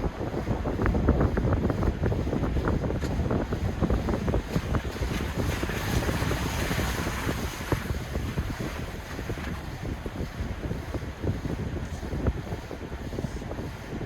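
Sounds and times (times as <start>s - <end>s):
low road rumble: 0.0s - 14.0s
wind buffeting a microphone: 0.0s - 14.0s.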